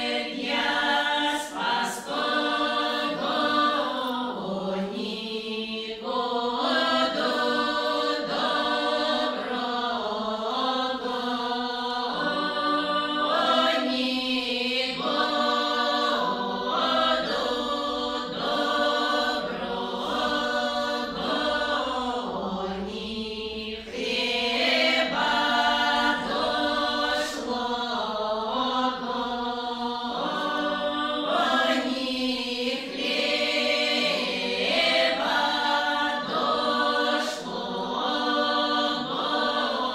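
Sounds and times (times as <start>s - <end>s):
women's choir singing unaccompanied: 0.0s - 39.9s.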